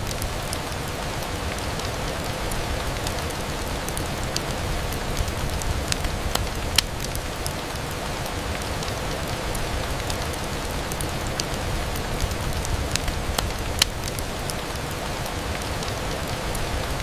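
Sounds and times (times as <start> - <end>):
rain against a window: 0.0 - 17.0.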